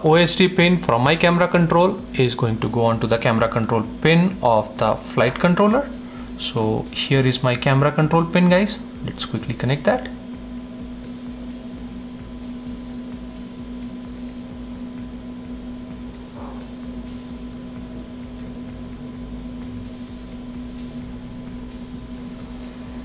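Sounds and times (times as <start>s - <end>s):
electrical hum with low rumble: 0.0s - 23.0s.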